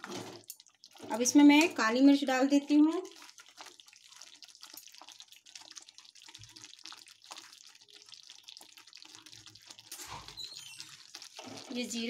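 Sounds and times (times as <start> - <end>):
curry bubbles popping: 0.0 - 12.0.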